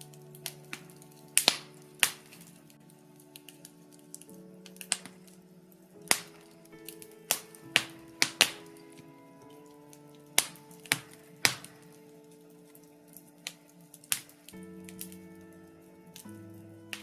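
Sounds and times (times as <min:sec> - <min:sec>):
soft background music: 0:00.0 - 0:17.0
wood fire crackling and popping: 0:00.1 - 0:16.3.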